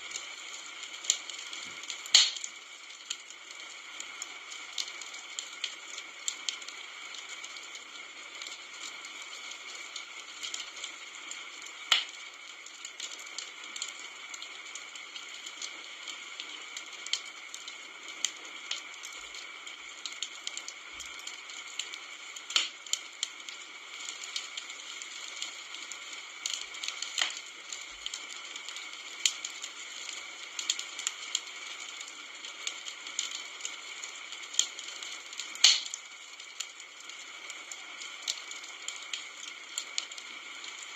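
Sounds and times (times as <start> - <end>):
campfire burning: 0.0 - 40.9
fire pops and snaps: 0.0 - 40.9.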